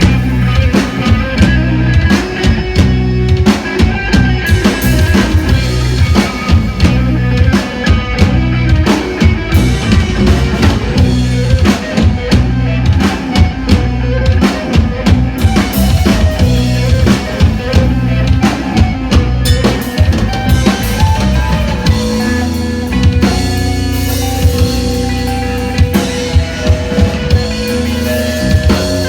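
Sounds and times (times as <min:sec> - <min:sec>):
drum kit beat: 0:00.0 - 0:29.0
live band playing: 0:00.0 - 0:29.0.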